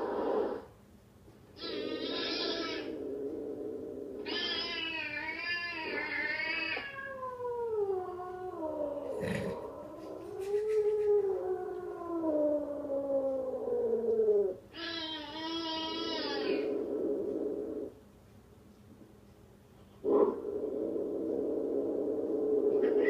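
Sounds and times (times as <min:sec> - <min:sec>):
cats yowling: 0:01.6 - 0:17.9, 0:20.1 - 0:23.0.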